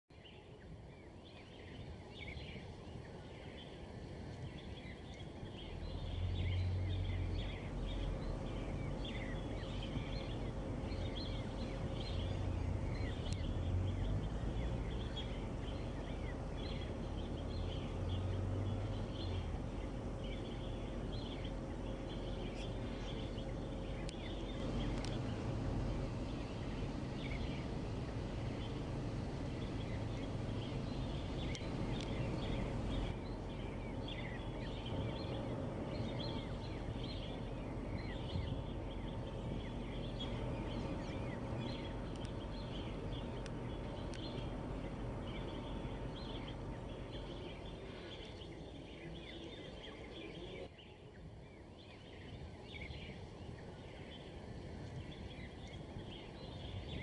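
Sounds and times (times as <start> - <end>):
birds chirping: 0.1 - 57.0
low rumble: 1.8 - 57.0.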